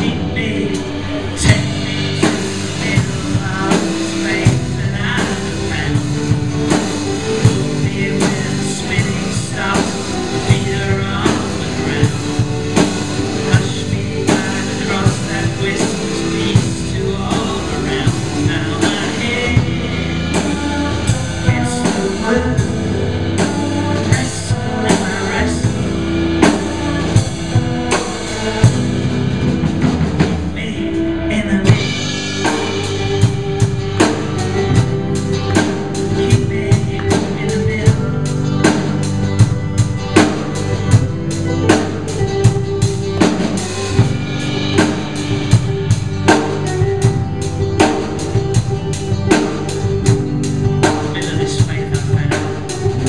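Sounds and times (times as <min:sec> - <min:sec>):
acoustic and electric guitars: 0:00.0 - 0:53.0
drum kit beat: 0:00.0 - 0:53.0.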